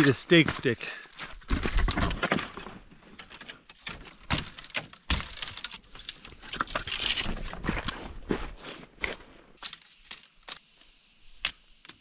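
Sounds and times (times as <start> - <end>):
dry branches rustling: 0.0 - 11.4.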